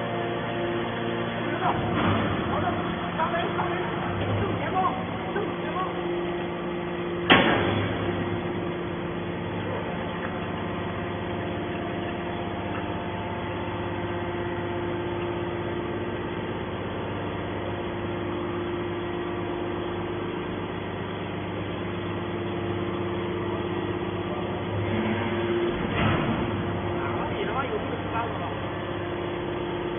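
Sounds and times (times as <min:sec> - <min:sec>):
hydraulic machine hum: 0:00.0 - 0:29.9.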